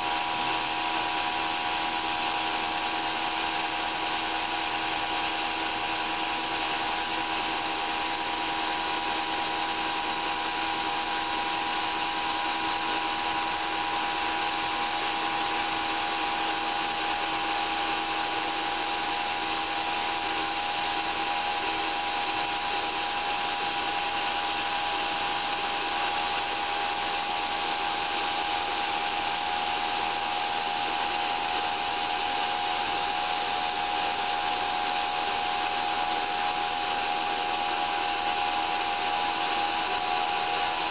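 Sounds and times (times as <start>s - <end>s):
sawmill cutting a log: 0.0s - 40.9s.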